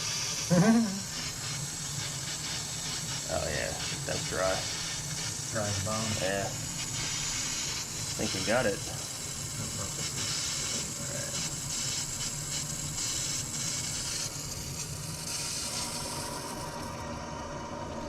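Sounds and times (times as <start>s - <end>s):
water and air hissing through pipes: 0.0s - 18.0s.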